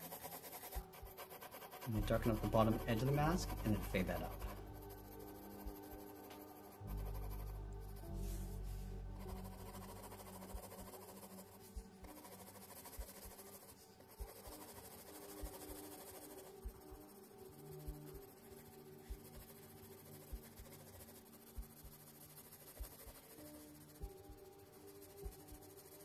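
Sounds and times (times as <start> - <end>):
pencil scratching on paper: 0.0 - 26.0
quiet background music: 0.0 - 26.0.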